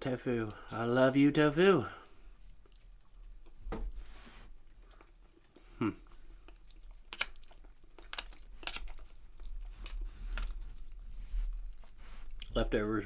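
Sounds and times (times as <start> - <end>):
person chewing: 2.0 - 12.6.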